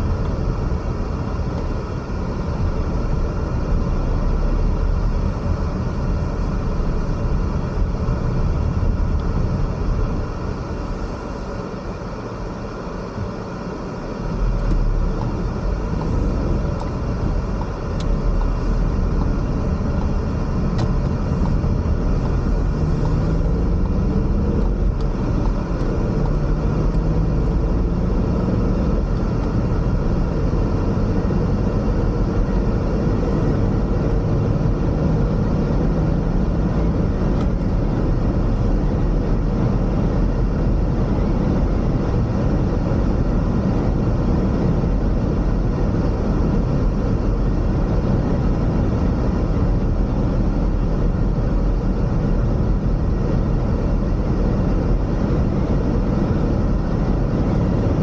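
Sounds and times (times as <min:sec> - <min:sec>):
car driving on road: 0:00.0 - 0:58.0.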